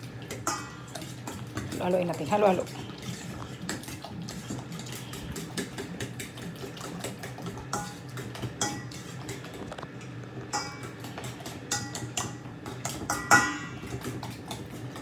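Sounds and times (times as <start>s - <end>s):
fork beating eggs in metal bowl: 0.0s - 9.6s, 10.5s - 15.0s.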